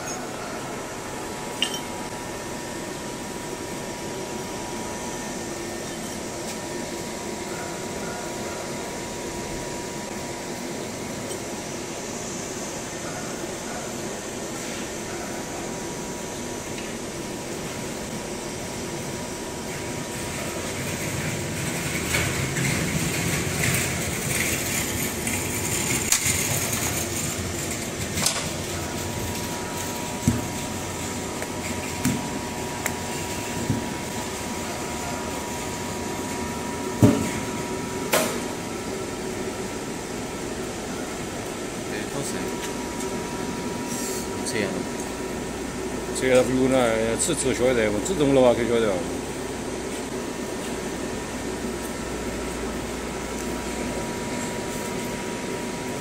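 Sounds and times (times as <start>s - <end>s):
machine humming and whining: 0.0s - 56.0s.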